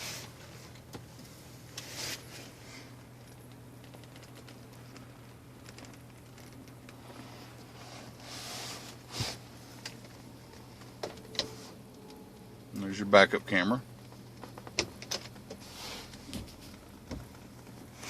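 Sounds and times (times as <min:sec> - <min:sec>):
handling clicks and rustles: 0:00.0 - 0:18.0
low steady hum: 0:00.0 - 0:18.0.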